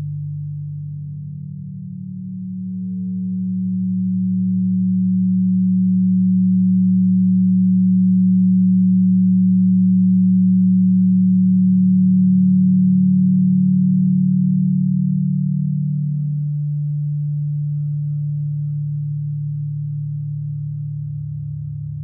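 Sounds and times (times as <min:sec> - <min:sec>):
synthesized drone of low tones: 0:00.0 - 0:22.0.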